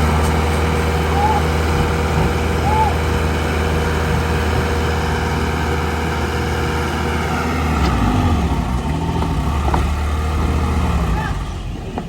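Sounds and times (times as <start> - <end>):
heavy diesel engine rumbling: 0.0 - 12.0.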